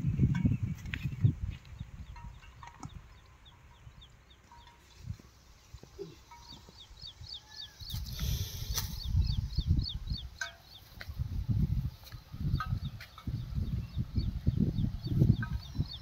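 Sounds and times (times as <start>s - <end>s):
bird chirping: 0.0s - 11.1s, 12.2s - 16.0s.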